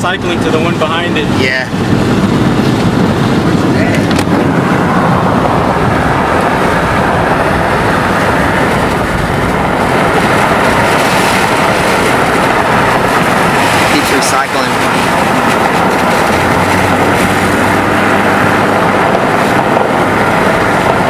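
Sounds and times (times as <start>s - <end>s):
car road and wind noise: 0.0s - 21.0s.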